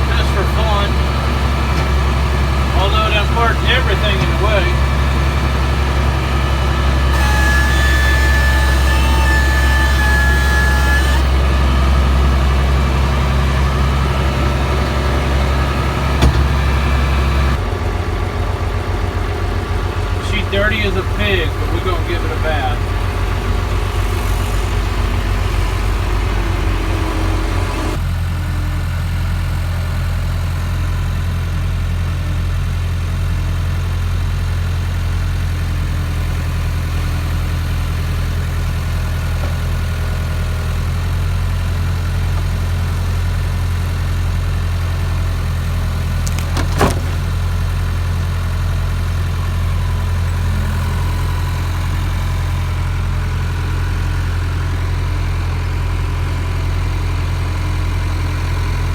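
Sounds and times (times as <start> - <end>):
heavy engine idling: 0.0 - 58.9.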